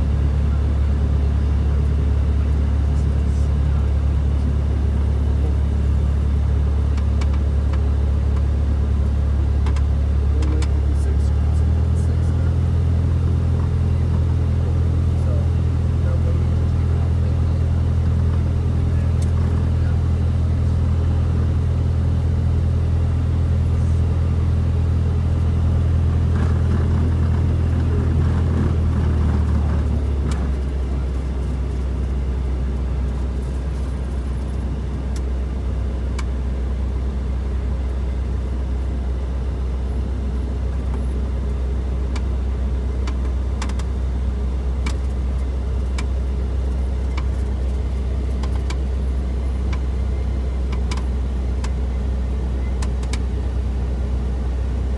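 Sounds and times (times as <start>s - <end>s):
airplane engine and propeller drone: 0.0s - 54.9s.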